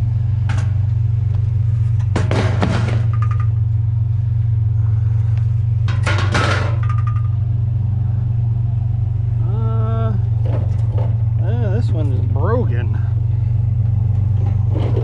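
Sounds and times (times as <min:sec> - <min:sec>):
motor vehicle engine droning: 0:00.0 - 0:15.0.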